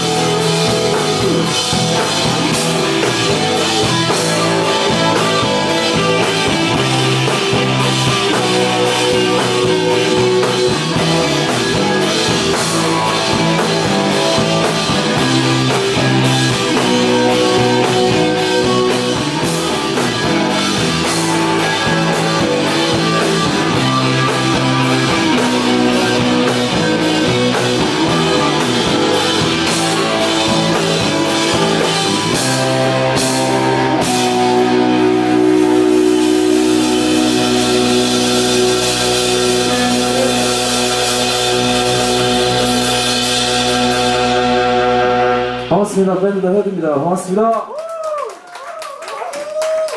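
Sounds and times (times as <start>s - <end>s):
drum and cymbal hits: 0.0s - 45.8s
rock band playing live: 0.0s - 47.5s.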